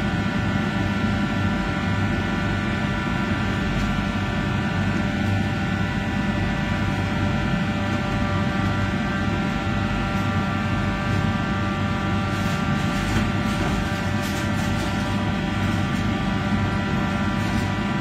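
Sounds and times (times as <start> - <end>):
exhaust hood fan humming: 0.0 - 18.0.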